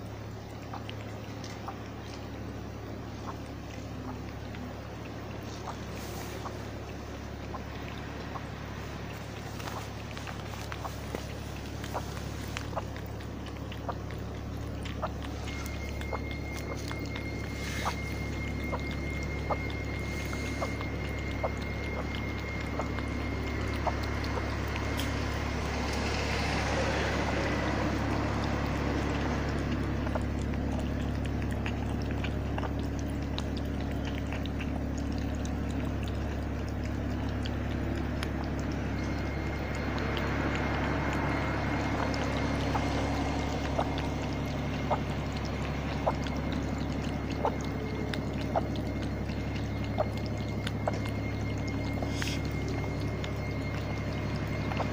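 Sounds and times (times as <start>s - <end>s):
cat lapping water: 0.0s - 54.9s
steady low hum: 0.0s - 54.9s.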